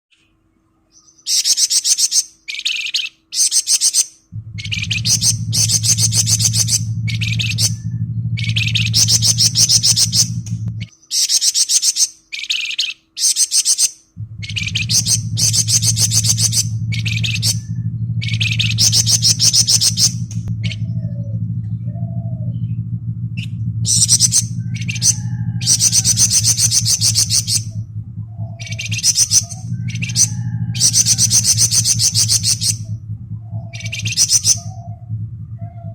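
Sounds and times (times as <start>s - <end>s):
bird singing rattling trill: 0.2s - 35.9s
steady low hum: 0.2s - 35.9s.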